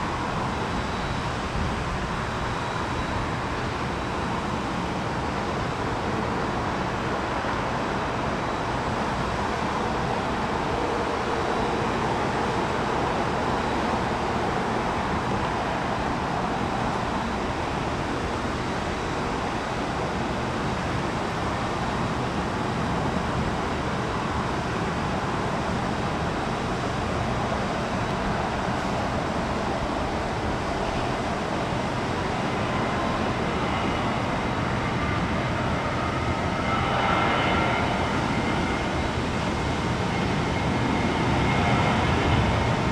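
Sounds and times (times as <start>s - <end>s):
faint high whine: 0.0s - 42.9s
jet engine roar: 0.0s - 42.9s.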